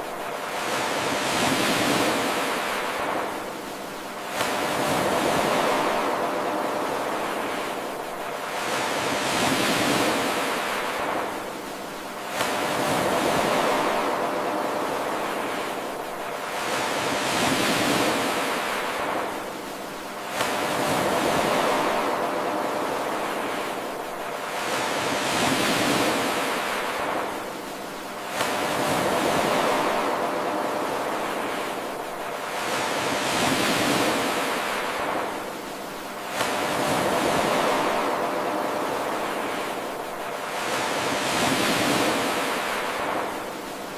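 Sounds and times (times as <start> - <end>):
ocean waves washing on shore: 0.0 - 43.9.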